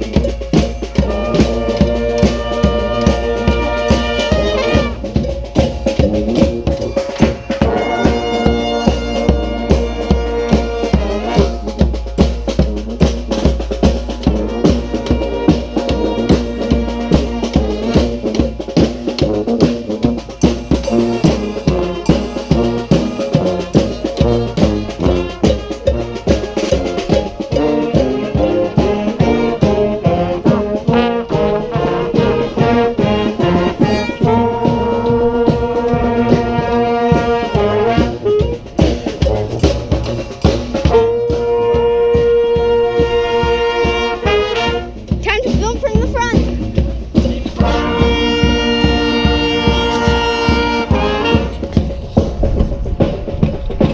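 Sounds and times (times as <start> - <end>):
bass drum beat: 0.0 - 53.9
brass band playing: 0.0 - 53.9.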